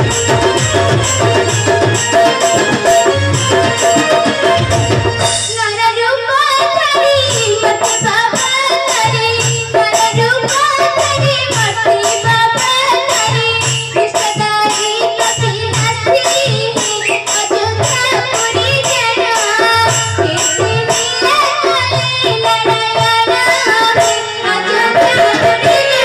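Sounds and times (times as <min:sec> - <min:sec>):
jingling metallic percussion: 0:00.0 - 0:26.0
steady drum beat: 0:00.0 - 0:26.0
girl singing into a microphone: 0:04.2 - 0:26.0.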